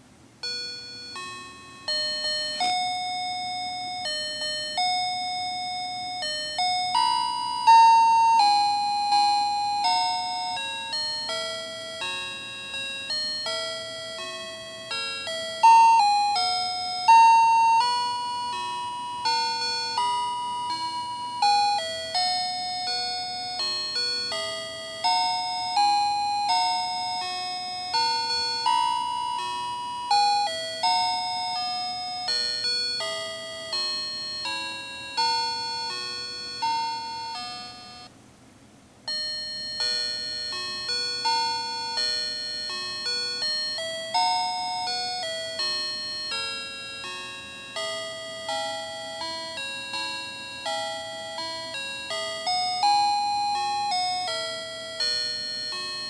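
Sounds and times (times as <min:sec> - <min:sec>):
electronic lullaby in chime tones: 0:00.4 - 0:38.1, 0:39.1 - 0:56.0.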